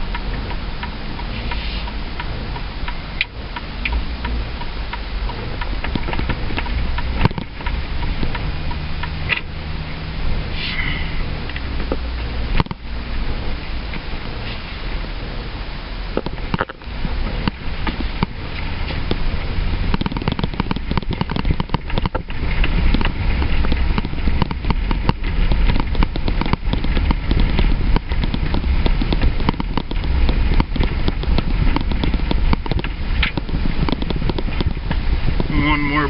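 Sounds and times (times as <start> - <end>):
crackling and rattling: 0.0 - 36.0
truck road rumble: 0.0 - 36.0.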